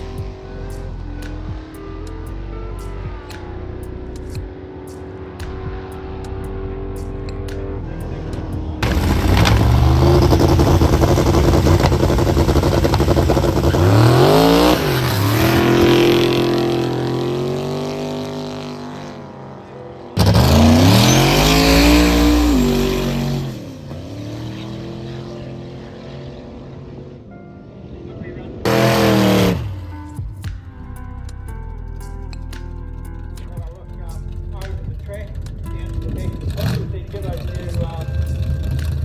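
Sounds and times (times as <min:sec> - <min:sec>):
racing car engines at full throttle: 0:00.0 - 0:30.6, 0:33.9 - 0:39.0.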